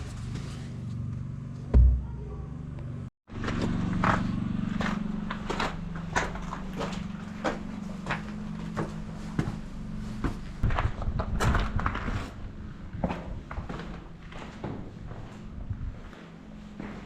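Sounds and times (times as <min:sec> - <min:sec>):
footsteps on hard ground: 0:03.3 - 0:17.0.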